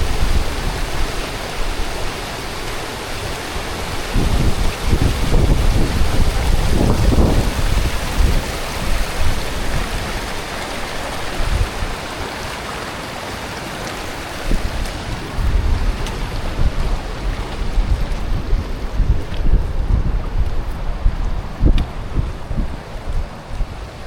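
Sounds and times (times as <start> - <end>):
wind buffeting microphone: 0.0 - 12.4, 14.0 - 24.0.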